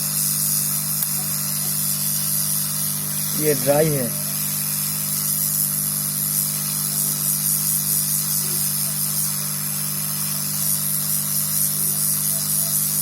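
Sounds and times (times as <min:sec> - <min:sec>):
hot air blower hissing: 0:00.0 - 0:13.0.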